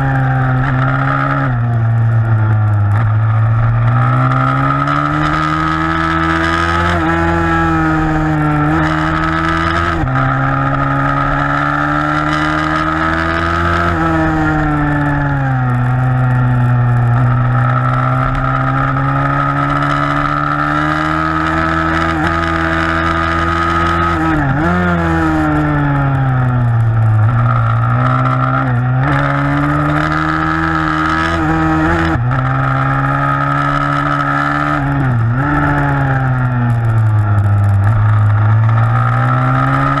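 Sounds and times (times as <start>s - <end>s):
motorbike engine racing: 0.0s - 40.0s.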